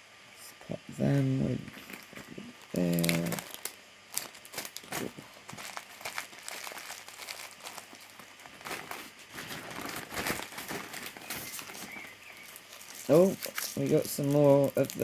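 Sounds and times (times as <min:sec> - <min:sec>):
plastic packets crinkling: 0:01.1 - 0:15.0.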